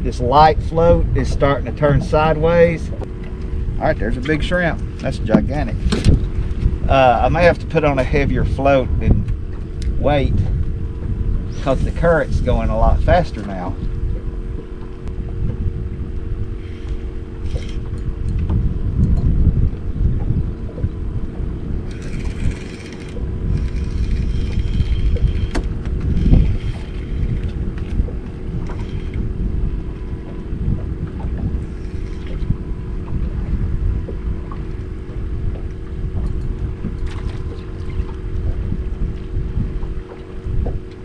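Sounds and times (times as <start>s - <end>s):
steady low hum: 0.0s - 41.0s
wind buffeting microphone: 0.0s - 41.0s.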